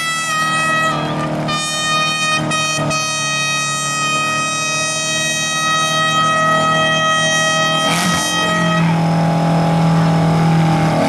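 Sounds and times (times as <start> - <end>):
air horn blast: 0.0 - 9.4
engines idling hum: 0.0 - 11.0.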